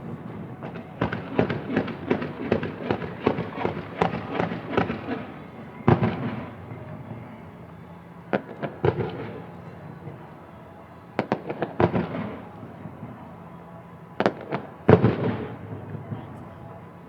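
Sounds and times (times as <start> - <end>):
fireworks bursting with sharp bangs: 0.0 - 7.3, 8.2 - 10.2, 11.2 - 13.3, 14.2 - 16.4.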